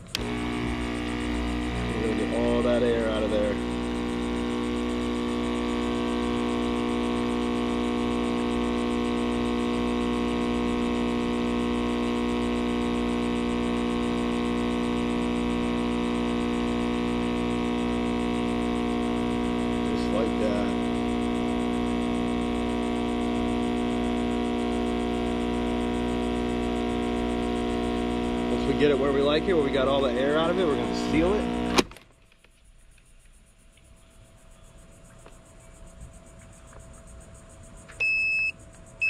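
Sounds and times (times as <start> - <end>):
vacuum sealer pump humming: 0.0 - 32.1, 35.1 - 39.0.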